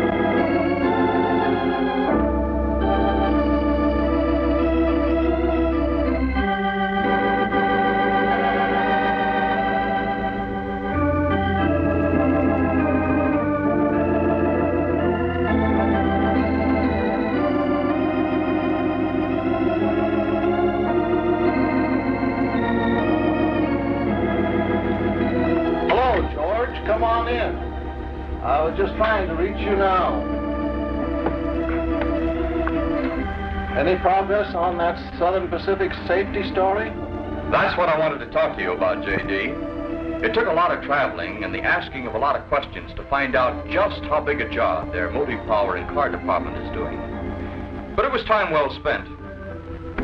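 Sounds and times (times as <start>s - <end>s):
organ chords: 0.0s - 50.0s.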